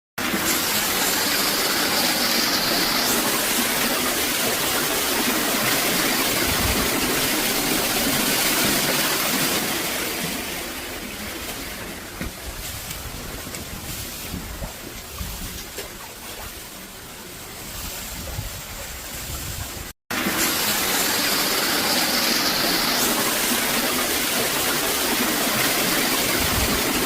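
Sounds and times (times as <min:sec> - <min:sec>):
water gushing from toilet: 0:00.2 - 0:16.7, 0:20.1 - 0:27.0.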